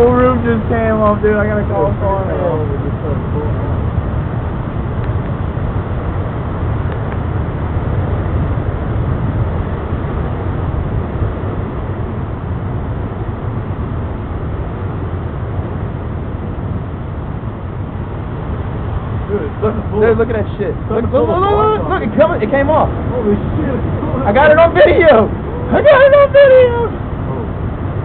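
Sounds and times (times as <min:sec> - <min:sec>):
strong wind blowing: 0:00.0 - 0:28.0.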